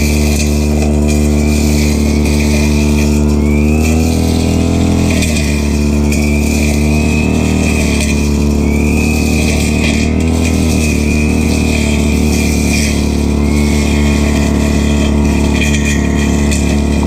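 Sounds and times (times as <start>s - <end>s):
brushcutter engine running: 0.0s - 17.0s.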